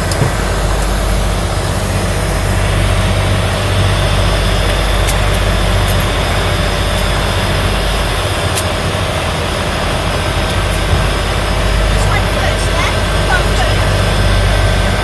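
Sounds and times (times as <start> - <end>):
turboprop engine droning: 0.0 - 15.0.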